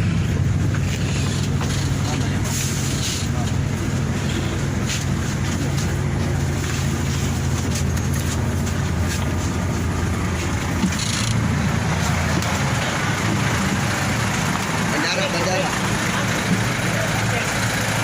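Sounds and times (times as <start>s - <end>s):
road traffic noise: 0.0s - 18.0s
vehicle engine humming: 0.0s - 18.0s.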